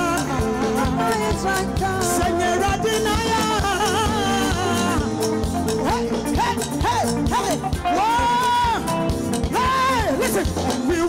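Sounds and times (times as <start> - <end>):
band with steady beat: 0.0 - 11.0
person singing: 0.0 - 11.0.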